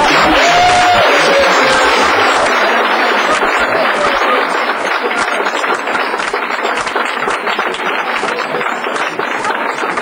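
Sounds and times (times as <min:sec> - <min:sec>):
crowd applauding: 0:00.0 - 0:10.0
crowd voices: 0:00.0 - 0:10.0.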